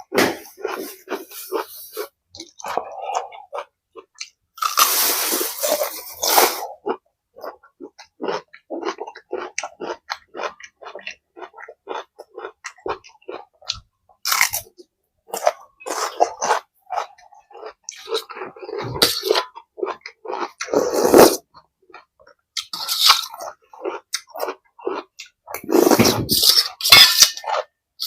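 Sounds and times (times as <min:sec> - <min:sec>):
person chewing and crunching food: 0:00.0 - 0:28.0.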